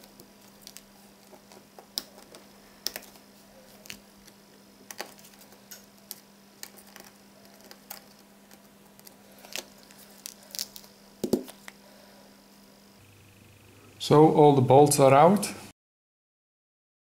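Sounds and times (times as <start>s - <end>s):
faint steady hum: 0.0s - 15.7s.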